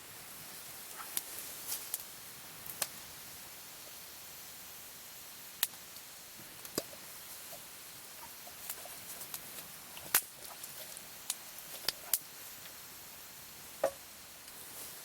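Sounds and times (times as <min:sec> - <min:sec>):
campfire crackling and popping: 0:00.0 - 0:14.7
fire hiss: 0:00.0 - 0:15.0.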